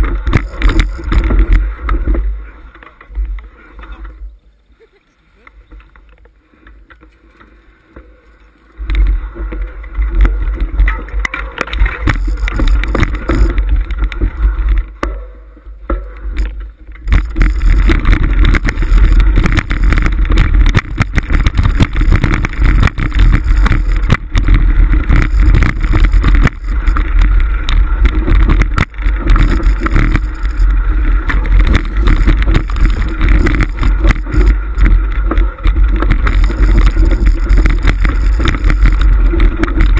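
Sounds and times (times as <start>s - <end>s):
wind rumble on microphone: 0.0s - 2.5s, 8.8s - 15.0s, 16.3s - 39.9s
bike rattling over stones: 0.0s - 4.4s, 5.6s - 39.9s.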